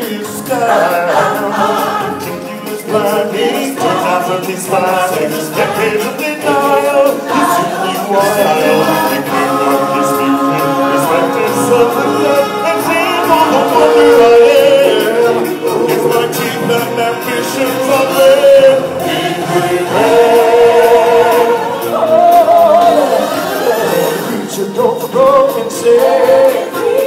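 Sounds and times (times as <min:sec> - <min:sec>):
group singing in chorus: 0:00.0 - 0:27.0
stage-show music: 0:00.0 - 0:27.0.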